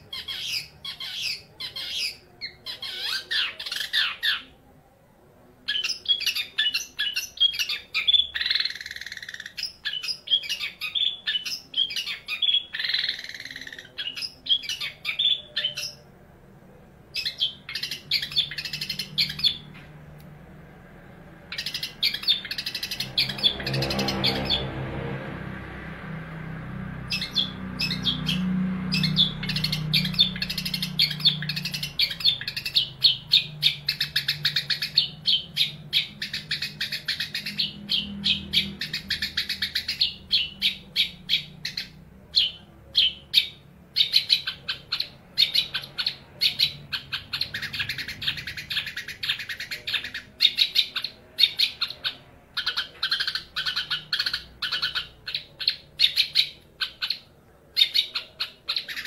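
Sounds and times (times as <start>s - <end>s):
bird singing chattering notes: 5.7s - 16.0s, 17.1s - 19.8s, 21.5s - 24.7s, 27.0s - 59.0s.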